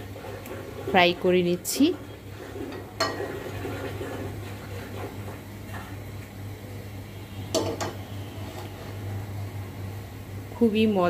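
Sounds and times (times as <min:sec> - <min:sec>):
gas burner humming: 0:00.0 - 0:11.0.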